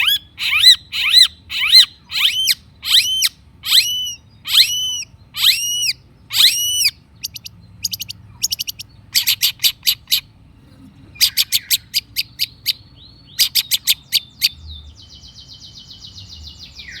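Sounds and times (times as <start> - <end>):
bird whistled calls: 0.0 - 10.3, 11.2 - 17.0
bird rapid chattering: 0.0 - 17.0.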